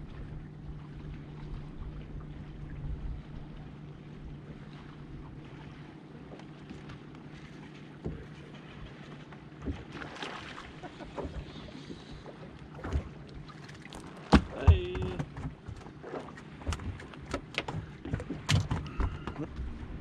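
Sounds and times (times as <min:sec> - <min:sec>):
trolling motor humming: 0:00.0 - 0:20.0.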